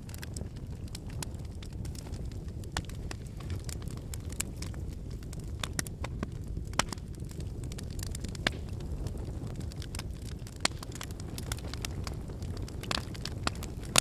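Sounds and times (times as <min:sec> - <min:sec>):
fire crackling and snapping: 0:00.0 - 0:14.0
fire rushing: 0:00.0 - 0:14.0.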